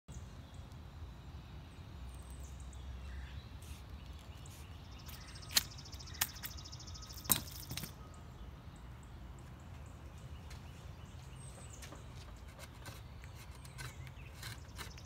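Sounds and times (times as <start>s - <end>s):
outdoor background noise: 0.1s - 15.0s.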